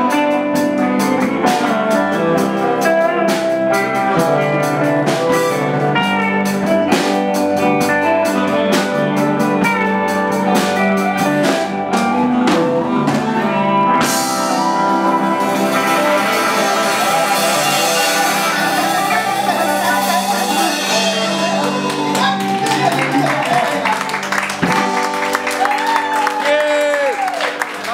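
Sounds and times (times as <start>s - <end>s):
drum kit slow beat: 0.0s - 27.3s
electric guitar lead: 0.0s - 27.9s.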